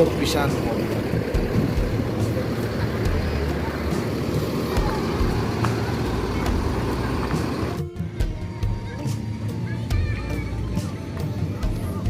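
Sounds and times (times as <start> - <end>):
bus engines rumbling: 0.0 - 12.0.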